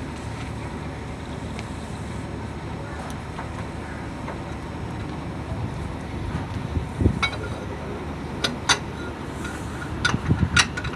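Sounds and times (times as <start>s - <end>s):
steady background rumble: 0.0s - 10.9s.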